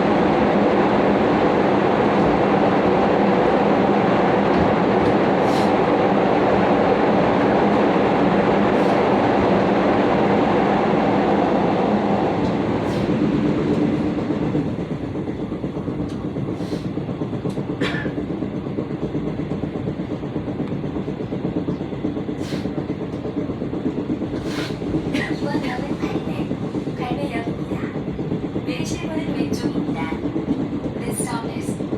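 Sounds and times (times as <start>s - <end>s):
rhythmic thumping of wheels: 0.0s - 31.9s
train wheels rumbling on track: 0.0s - 31.9s.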